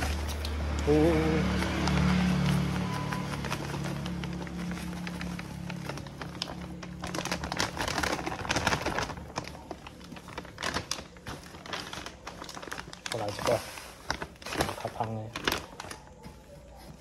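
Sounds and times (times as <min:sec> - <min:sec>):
dry granules clicking and crackling: 0:00.0 - 0:16.3.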